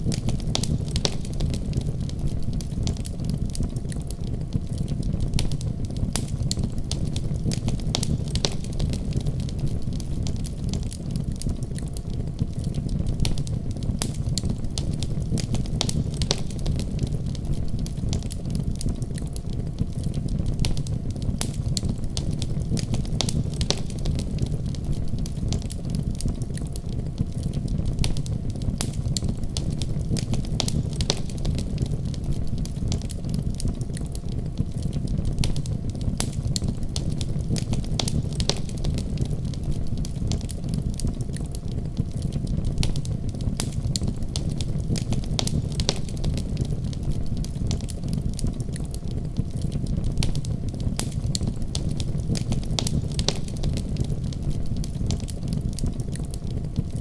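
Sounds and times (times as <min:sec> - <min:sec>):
crackles and pops of burning logs: 0:00.0 - 0:57.0
fire roaring in a fireplace: 0:00.0 - 0:57.0.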